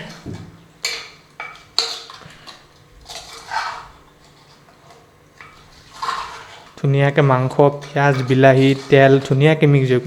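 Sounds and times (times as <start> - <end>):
spoon stirring food in pot: 0.8 - 6.8, 7.4 - 9.9.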